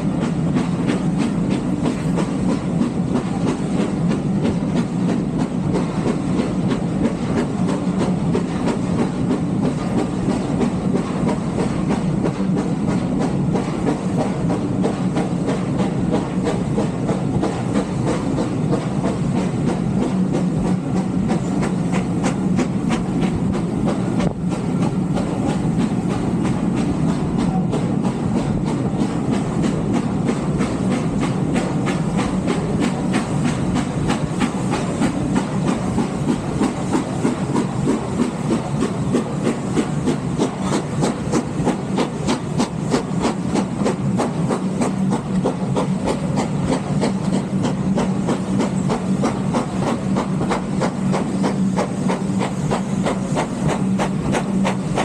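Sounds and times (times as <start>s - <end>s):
rhythmic wheel clatter: 0.0s - 55.0s
steam train rumbling: 0.0s - 55.0s.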